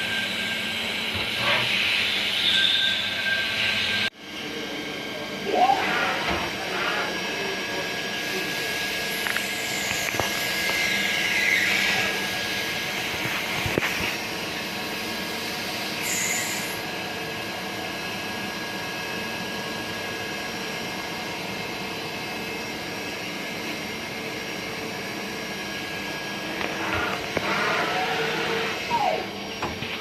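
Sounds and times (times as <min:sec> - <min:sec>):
machine whine: 0:00.0 - 0:30.0.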